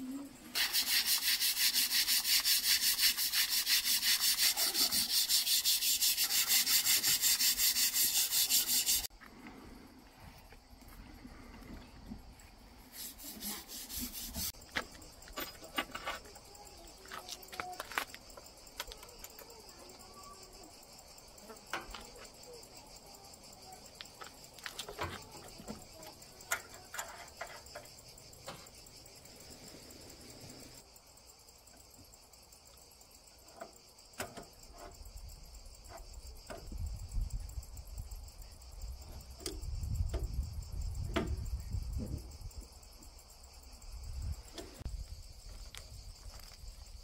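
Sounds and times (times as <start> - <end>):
cicadas chorus: 0.0 - 47.0.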